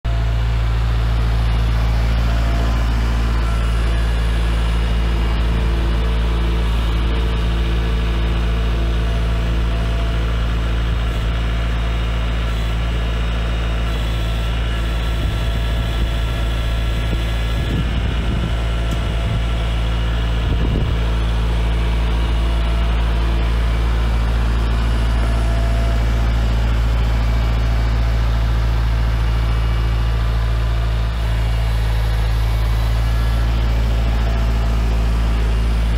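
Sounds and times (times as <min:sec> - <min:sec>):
vehicle engine idling: 0:00.0 - 0:35.9.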